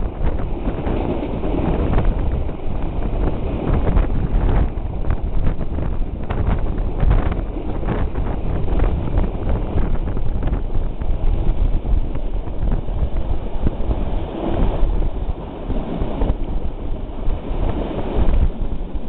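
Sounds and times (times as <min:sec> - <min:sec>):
moving train rumble: 0:00.0 - 0:19.0
wind buffeting microphone: 0:00.0 - 0:19.0.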